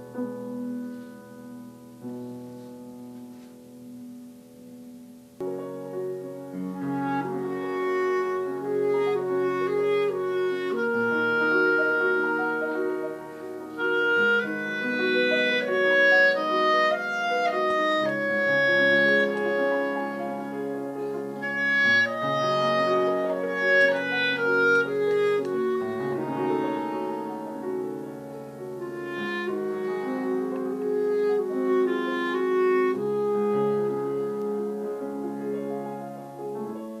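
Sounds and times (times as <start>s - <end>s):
grand piano playing chords: 0.0s - 37.0s
sustained melody instrument: 5.4s - 37.0s.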